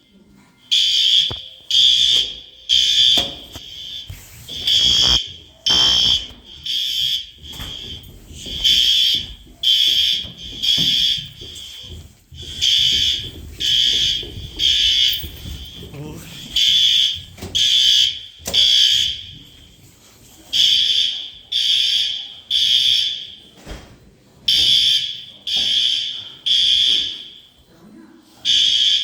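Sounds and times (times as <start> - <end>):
fire alarm high-pitched beeps: 0.7 - 15.8, 16.4 - 19.9, 20.5 - 23.6, 24.5 - 27.7, 28.4 - 29.0.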